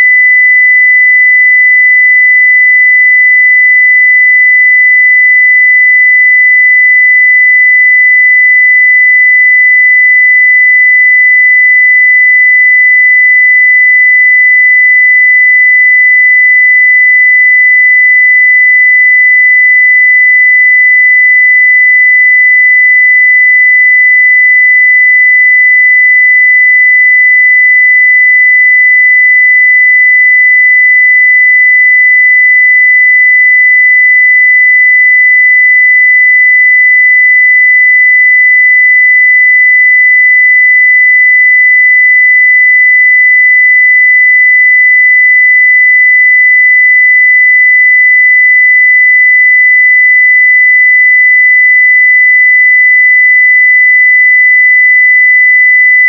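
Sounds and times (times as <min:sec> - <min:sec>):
sine wave test tone: 0:00.0 - 0:56.0.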